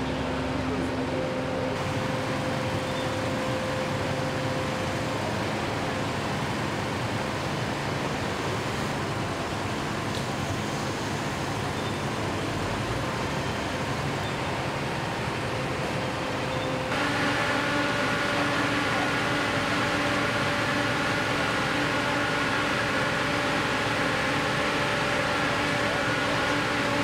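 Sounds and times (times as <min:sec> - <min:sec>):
fire engine mechanical drone: 0:00.0 - 0:27.0.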